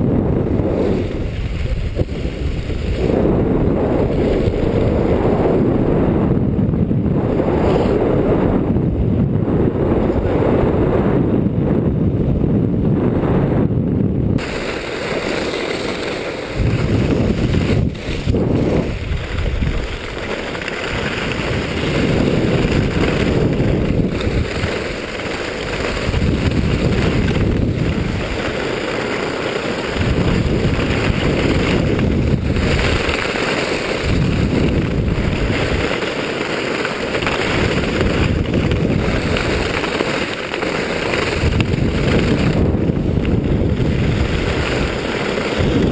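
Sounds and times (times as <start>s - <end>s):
wind on microphone: 0.0s - 45.9s
skis scraping on snow: 0.2s - 6.0s, 14.4s - 45.9s.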